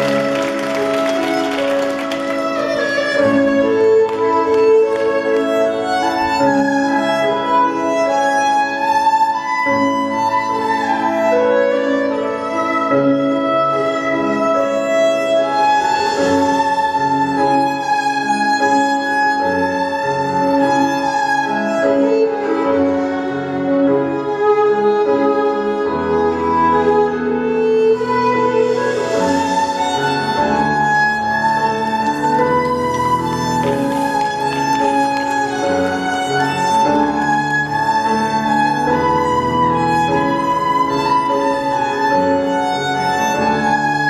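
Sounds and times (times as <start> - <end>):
dance music with bowed strings: 0.0 - 10.8, 13.0 - 44.0.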